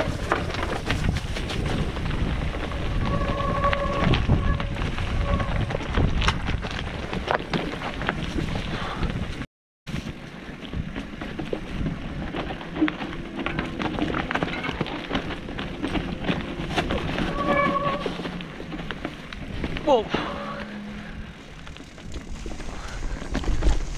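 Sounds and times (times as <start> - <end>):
bike rattling: 0.0 - 23.9
tyres crunching on trail: 0.0 - 23.9
wind noise on microphone: 0.0 - 23.9.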